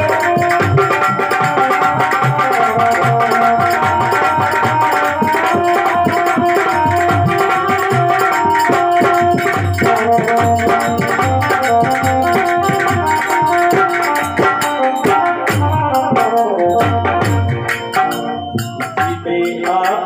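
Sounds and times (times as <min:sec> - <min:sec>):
hand drum rhythm: 0:00.0 - 0:20.0
harmonium melody: 0:00.0 - 0:20.0.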